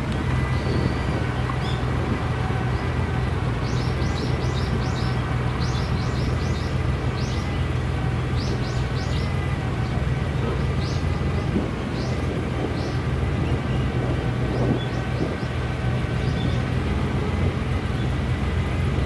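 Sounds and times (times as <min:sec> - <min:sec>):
birds chirping: 0:00.2 - 0:16.8.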